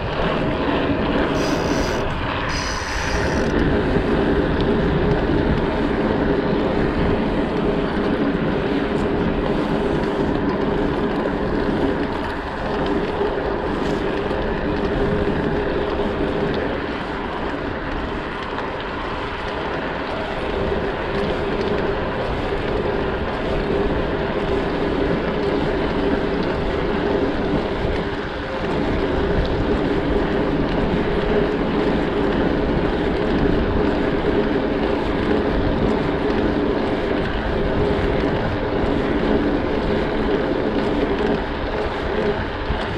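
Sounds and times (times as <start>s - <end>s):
wind on microphone: 0.0s - 18.3s, 19.6s - 42.9s
bike tyres rolling on pavement: 0.0s - 42.9s.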